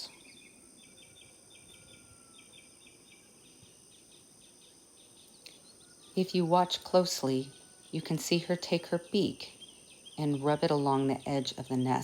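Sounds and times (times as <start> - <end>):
insect chirps: 0.0 - 12.0.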